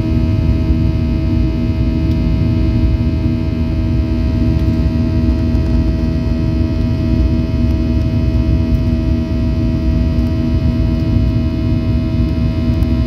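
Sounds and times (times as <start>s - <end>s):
jet engine drone in cabin: 0.0s - 13.0s.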